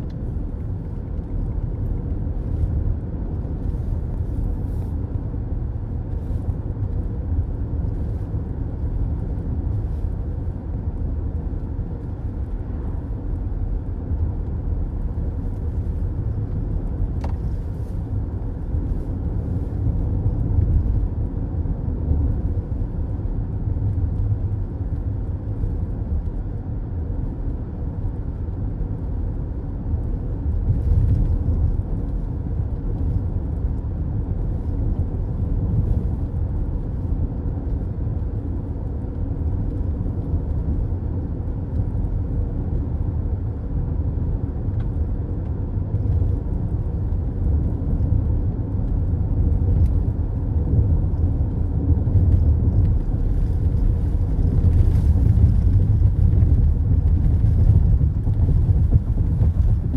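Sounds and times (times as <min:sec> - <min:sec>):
car road rumble from inside: 0:00.0 - 0:59.9.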